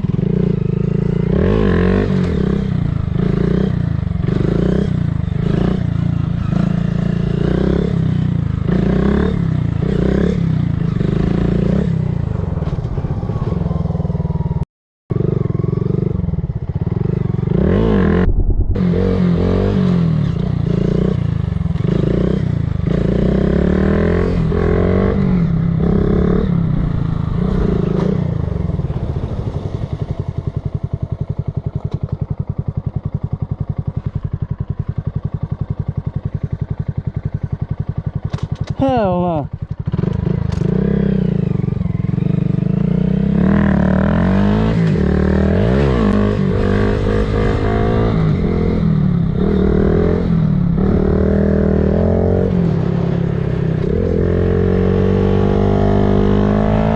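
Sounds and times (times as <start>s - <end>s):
motorcycle engine revving: 0.0s - 14.5s, 15.1s - 56.9s.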